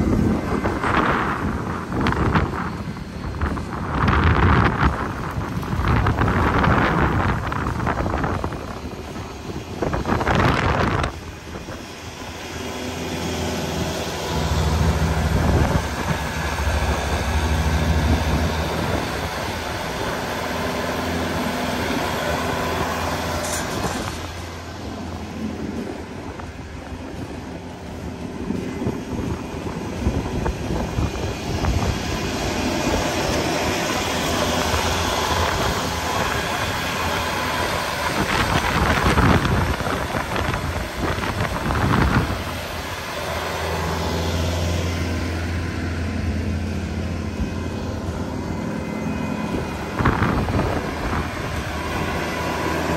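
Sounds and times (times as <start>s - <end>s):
tractor diesel engine under load: 0.0s - 52.9s
wind buffeting microphone: 0.0s - 52.9s.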